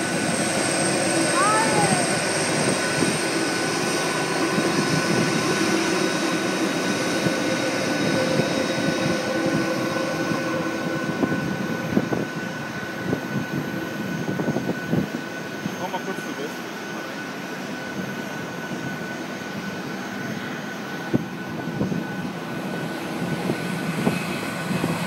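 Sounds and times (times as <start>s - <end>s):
jet engines rushing and whining: 0.0s - 25.0s.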